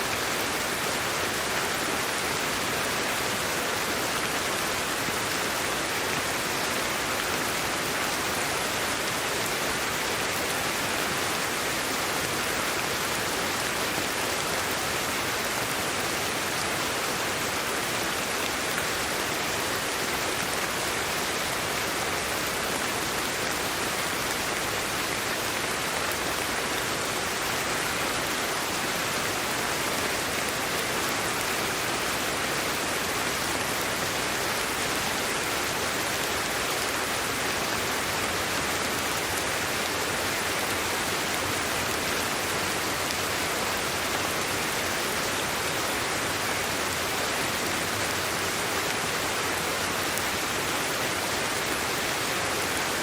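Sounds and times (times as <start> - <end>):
steady white noise hiss: 0.0 - 53.0.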